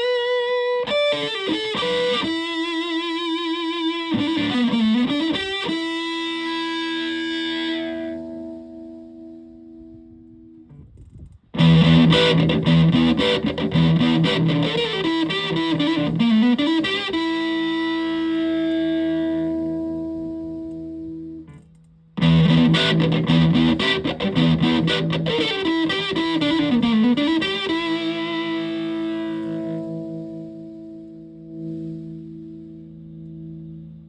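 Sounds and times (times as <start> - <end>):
fuzzy electric guitar: 0.0 - 34.0.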